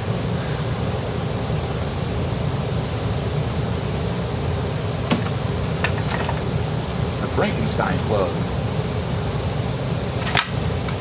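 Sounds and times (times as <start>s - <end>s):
heater rushing noise: 0.0s - 11.0s.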